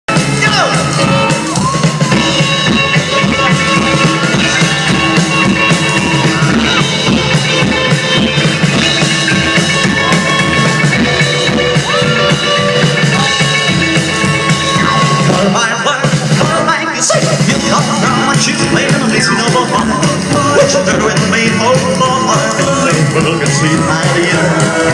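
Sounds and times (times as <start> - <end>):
rock music with drums: 0.1 - 24.9.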